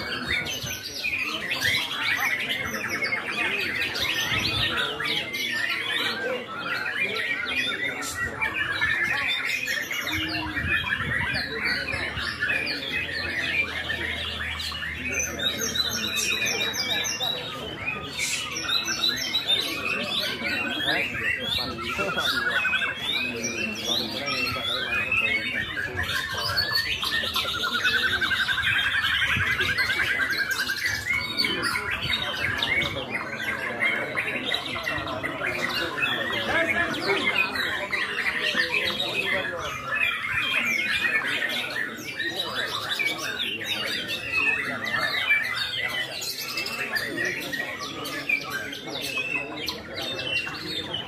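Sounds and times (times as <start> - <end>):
birds chirping and trilling: 0.0 - 51.0
songbirds singing: 0.0 - 51.0.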